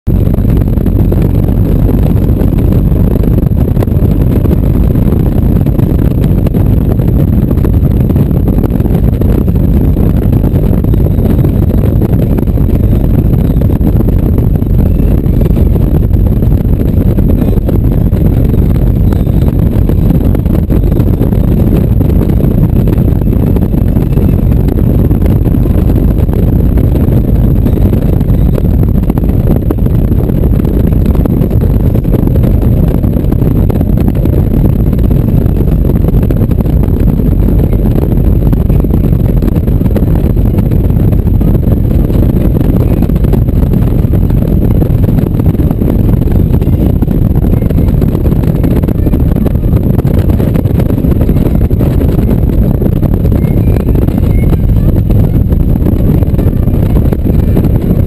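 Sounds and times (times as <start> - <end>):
motorcycle engine rumble: 0.0 - 58.0
wind noise on microphone: 0.0 - 58.0.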